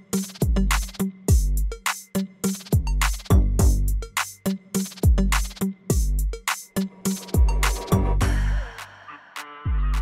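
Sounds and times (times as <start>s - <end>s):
electronic music with drum machine: 0.0s - 10.0s.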